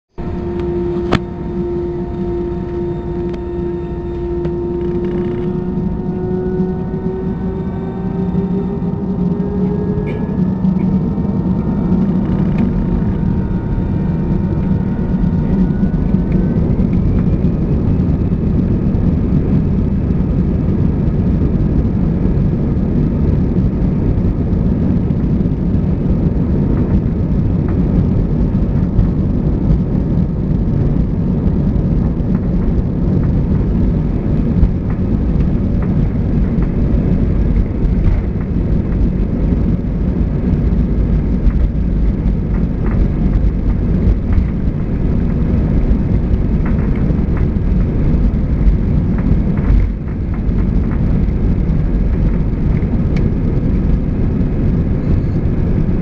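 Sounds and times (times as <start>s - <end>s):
jet engine roar: 0.1s - 56.0s
thin whine rising in pitch: 0.1s - 56.0s.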